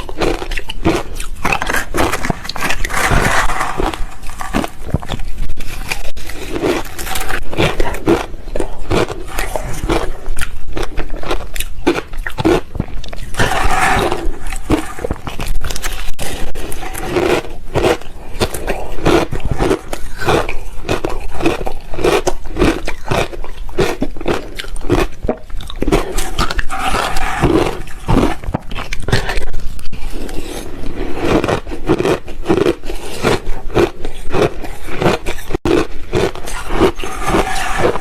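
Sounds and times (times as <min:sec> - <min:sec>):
ice being chewed: 0:00.0 - 0:38.0.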